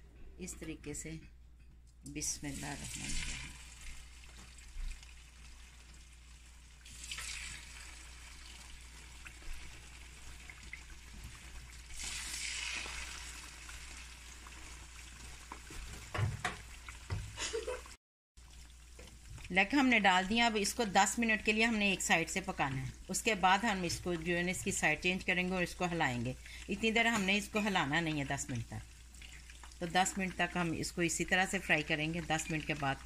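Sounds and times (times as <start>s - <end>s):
chicken deep-frying in oil: 2.4s - 33.0s.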